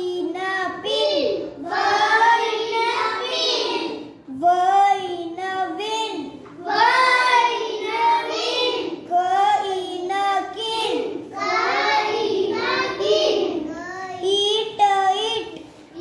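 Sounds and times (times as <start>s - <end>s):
boy reading aloud in sing-song: 0.0s - 16.0s.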